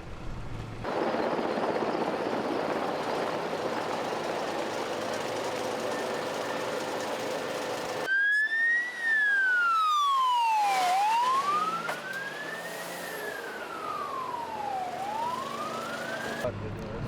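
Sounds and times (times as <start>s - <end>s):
emergency vehicle siren wailing: 1.7s - 16.5s.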